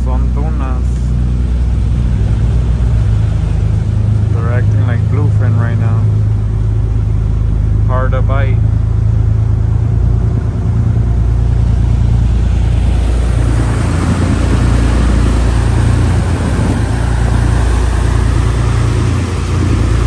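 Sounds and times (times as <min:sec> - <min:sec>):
boat engines droning: 0:00.0 - 0:20.0
water rushing from wake: 0:00.0 - 0:20.0
wind: 0:00.0 - 0:20.0.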